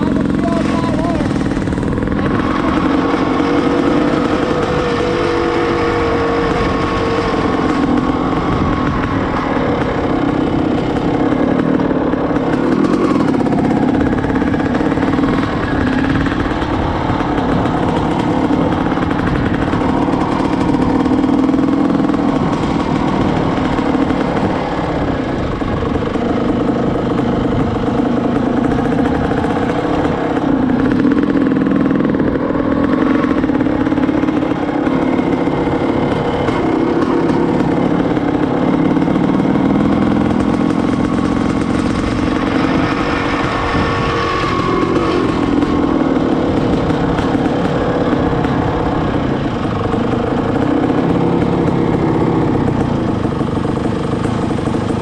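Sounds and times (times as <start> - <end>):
two-stroke motorcycle engine: 0.0 - 55.0.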